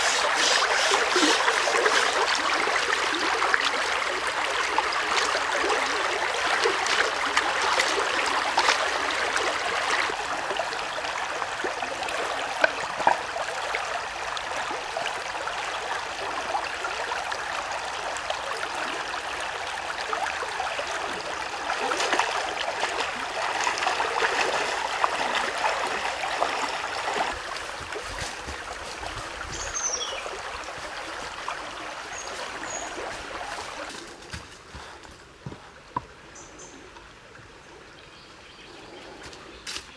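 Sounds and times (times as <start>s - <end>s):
stream trickling over rocks: 0.0s - 38.4s.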